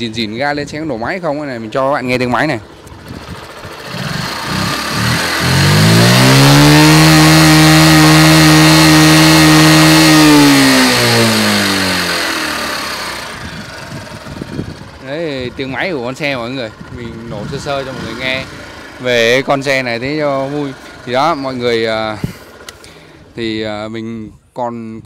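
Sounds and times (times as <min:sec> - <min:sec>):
motorcycle engine idling and revving: 0:00.0 - 0:23.9.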